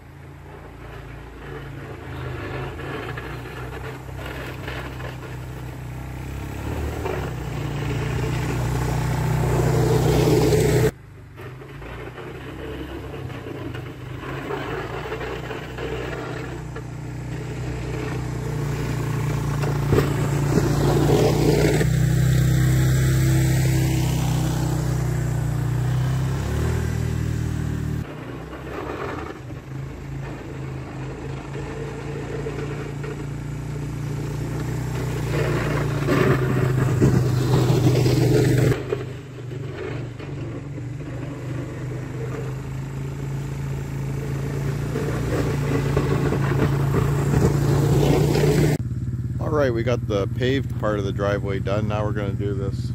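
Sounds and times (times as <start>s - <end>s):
atv engine pushing snow: 0.0s - 52.9s.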